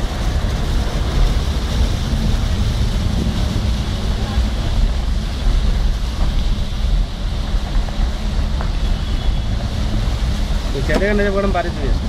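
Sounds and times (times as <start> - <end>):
vehicle engine rumbling: 0.0 - 12.0
water sloshing around wheels: 0.0 - 12.0.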